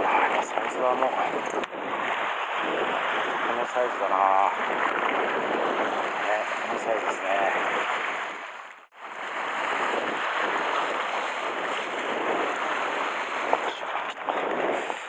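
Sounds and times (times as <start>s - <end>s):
surf washing over rocks: 0.0s - 15.0s.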